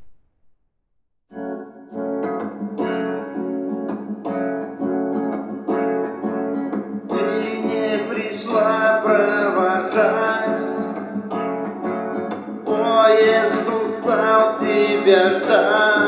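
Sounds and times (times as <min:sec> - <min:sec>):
guitar picked notes: 0:01.3 - 0:16.0.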